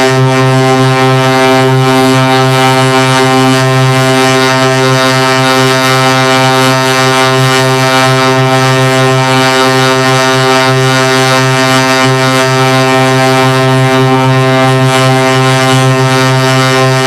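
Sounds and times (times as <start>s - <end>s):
low buzzing drone: 0.0s - 17.0s.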